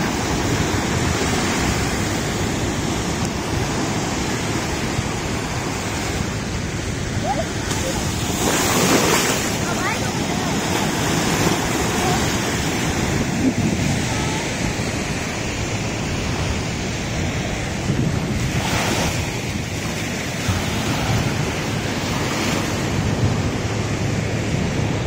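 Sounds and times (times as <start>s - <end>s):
surf washing up a beach: 0.0s - 25.0s
wind buffeting microphone: 0.0s - 25.0s.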